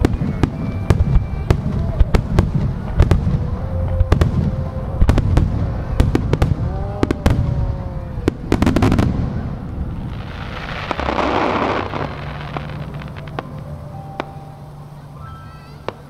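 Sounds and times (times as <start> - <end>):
fireworks bangs: 0.0 - 14.5
continuous low rumble: 0.0 - 16.0
steady hiss: 0.0 - 16.0.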